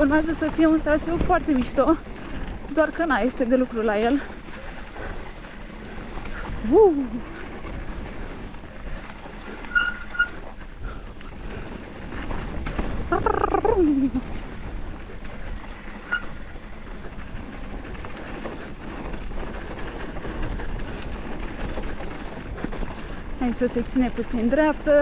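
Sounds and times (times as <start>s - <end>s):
bike rattling and clicking: 0.0s - 25.0s
bike tyre noise on dirt: 0.0s - 25.0s
wind rumble: 0.0s - 25.0s.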